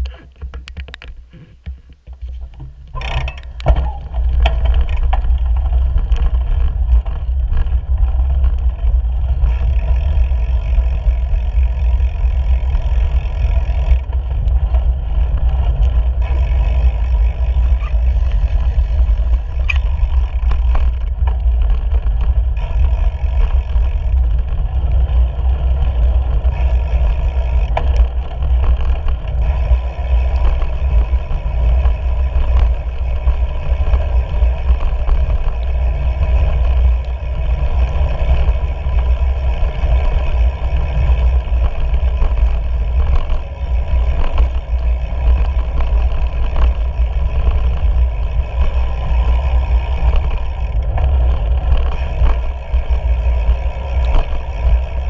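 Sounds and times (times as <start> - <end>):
bicycle clicks and rattles: 0.0 - 55.0
tyre and road noise: 0.0 - 55.0
wind buffeting microphone: 0.7 - 55.0.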